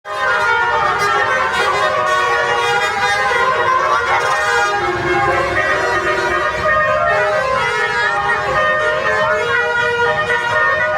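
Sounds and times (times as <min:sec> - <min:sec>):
multi-tone musical bus horn: 0:00.1 - 0:10.9.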